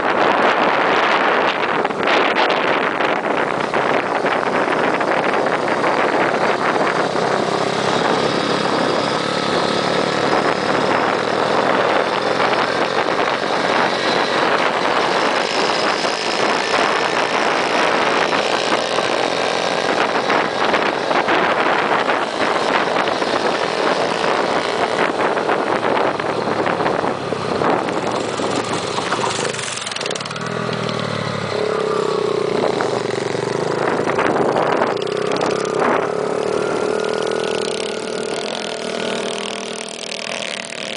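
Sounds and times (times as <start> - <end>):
small motorbike engine running: 0.1 - 40.9.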